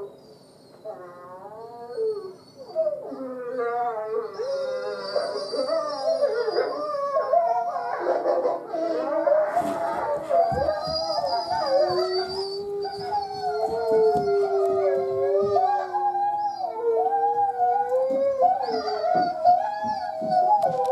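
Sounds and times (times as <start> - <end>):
dogs howling: 0.8 - 20.9.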